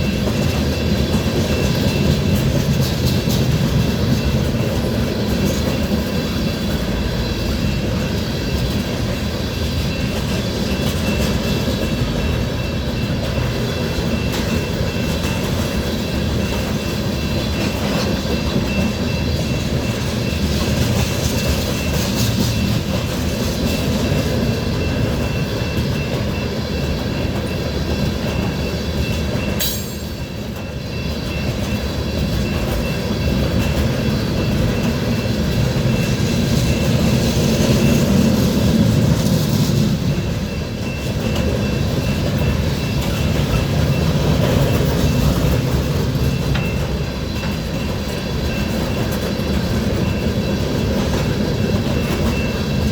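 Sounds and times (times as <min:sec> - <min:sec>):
freight train rolling past: 0:00.0 - 0:52.9
wheels clacking over rail joints: 0:00.0 - 0:52.9.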